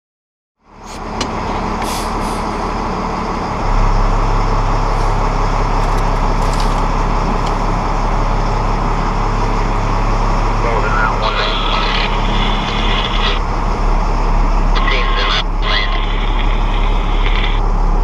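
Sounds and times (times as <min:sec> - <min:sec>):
truck engine humming: 0:00.6 - 0:18.0.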